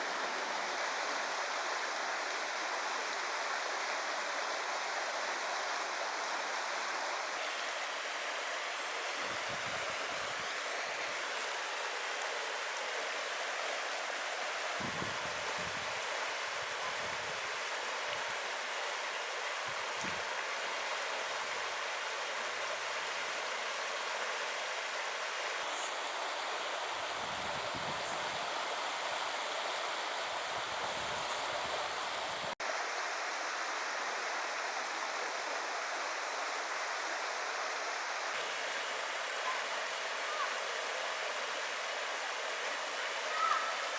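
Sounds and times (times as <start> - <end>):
river flowing over stones: 0.0 - 43.9.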